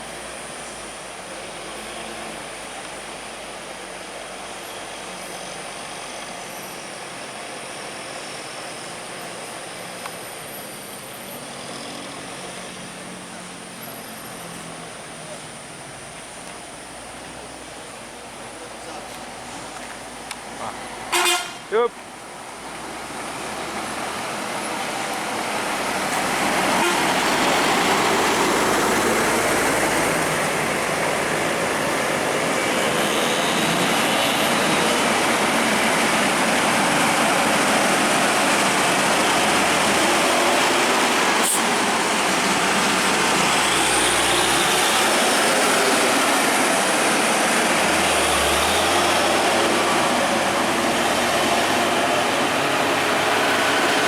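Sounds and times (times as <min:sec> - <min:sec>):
truck engine and road noise: 0:00.0 - 0:54.0.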